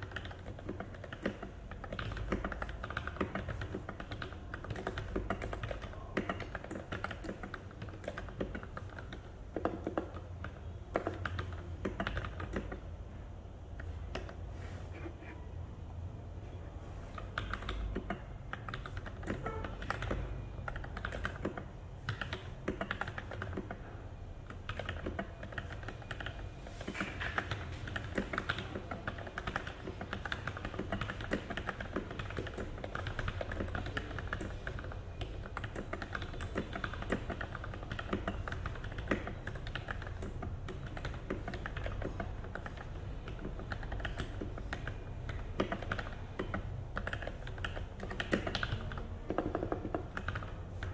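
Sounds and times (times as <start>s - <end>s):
fast typing on mechanical keyboard: 0.0s - 12.9s, 17.1s - 50.9s.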